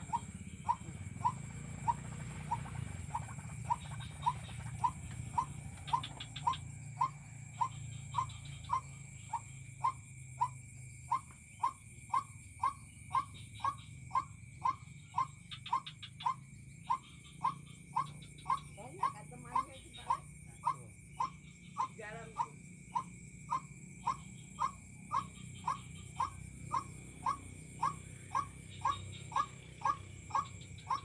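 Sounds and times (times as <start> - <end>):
bird repeating kwak call: 0.0 - 31.0.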